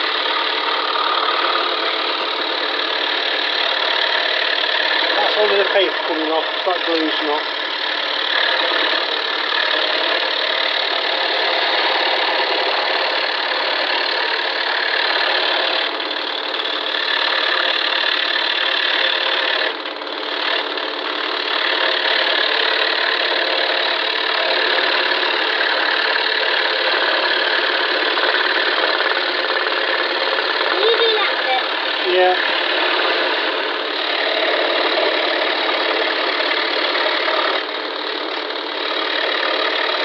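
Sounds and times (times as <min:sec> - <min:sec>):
scroll saw cutting wood: 0:00.0 - 0:40.0.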